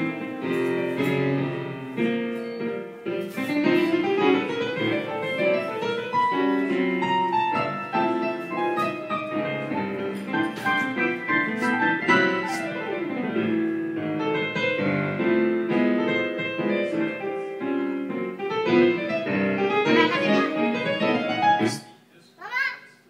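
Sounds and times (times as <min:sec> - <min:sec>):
digital piano played by child: 0:00.0 - 0:21.9.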